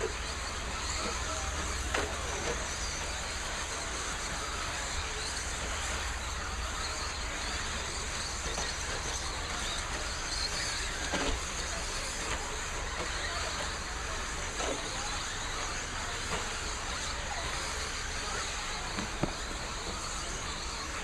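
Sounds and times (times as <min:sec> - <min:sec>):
radio-controlled trucks racing: 0:00.0 - 0:21.0.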